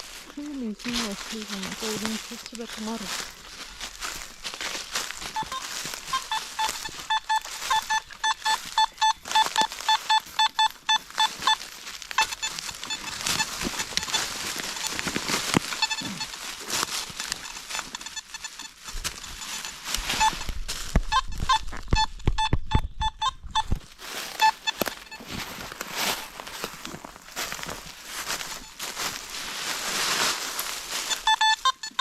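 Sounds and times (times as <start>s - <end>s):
metal detector beeps: 0.0s - 32.0s
rustling: 0.0s - 32.0s.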